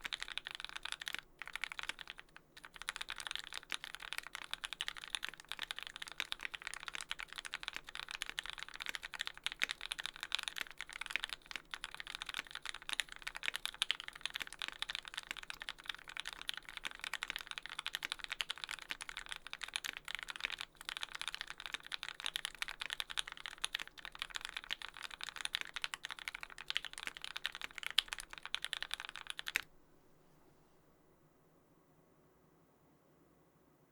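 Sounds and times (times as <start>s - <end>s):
fast typing on mechanical keyboard: 0.0s - 29.7s.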